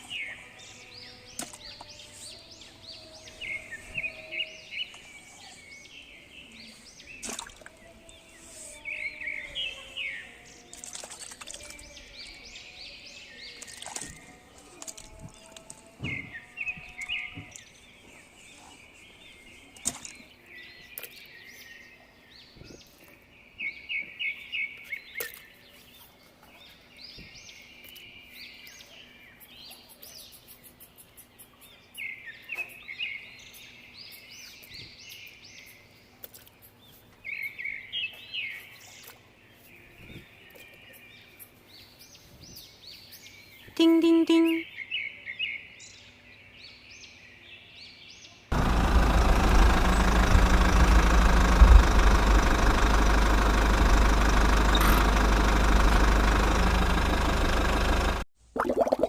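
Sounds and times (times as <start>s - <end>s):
birds chirping: 0.0s - 30.4s, 36.6s - 44.9s, 48.5s - 58.3s.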